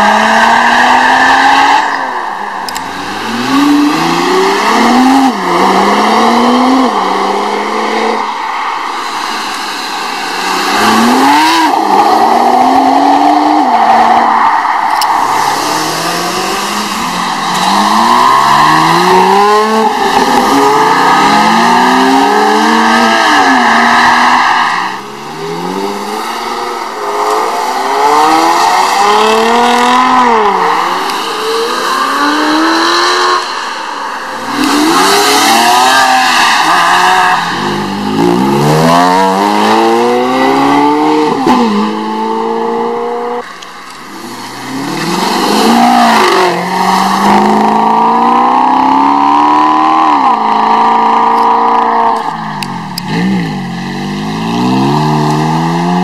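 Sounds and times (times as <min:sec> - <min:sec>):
sports cars accelerating hard: 0:00.0 - 0:56.0.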